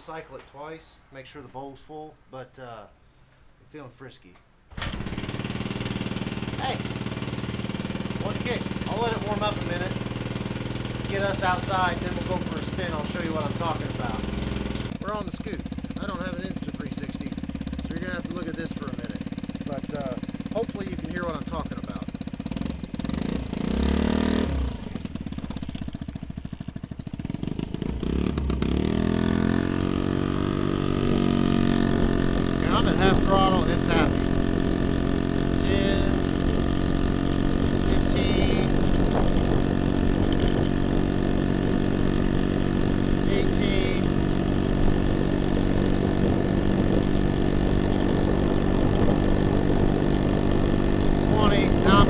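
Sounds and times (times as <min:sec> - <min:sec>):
scooter engine revving: 0:04.7 - 0:52.0.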